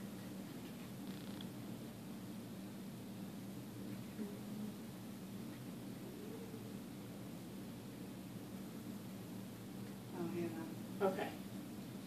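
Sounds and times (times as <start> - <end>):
faint hiss: 0.0 - 12.0
steady low hum: 0.0 - 12.0.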